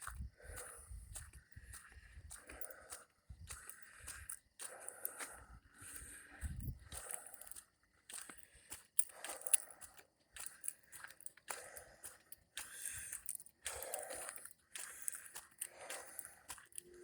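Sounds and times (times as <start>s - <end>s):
footsteps crunching on gravel: 0.0s - 17.0s.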